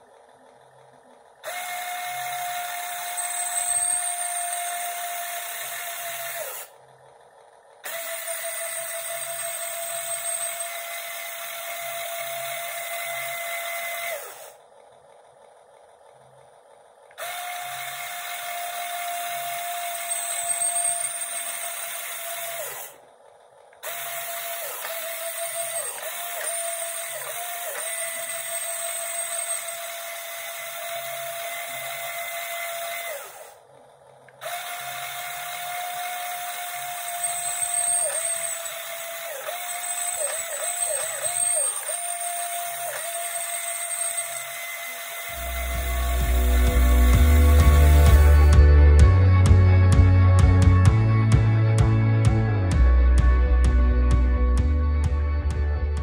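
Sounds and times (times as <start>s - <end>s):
small electric motor whining: 0.0s - 48.7s.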